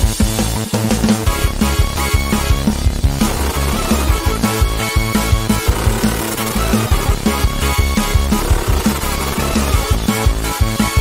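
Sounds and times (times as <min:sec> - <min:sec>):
electronic music with fast beat: 0:00.0 - 0:11.0.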